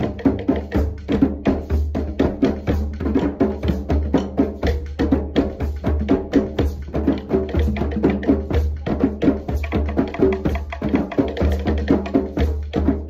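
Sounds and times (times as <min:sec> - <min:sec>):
hand drums playing: 0:00.0 - 0:13.0.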